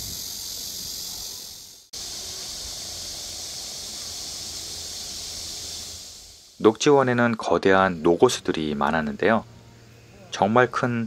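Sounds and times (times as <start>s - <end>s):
insects chirring in trees: 0.0s - 11.0s.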